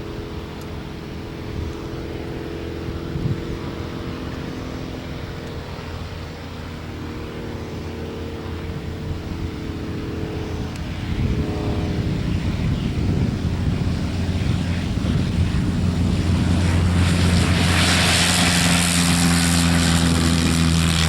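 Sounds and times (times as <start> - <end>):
propeller aircraft engine running: 0.0 - 21.0.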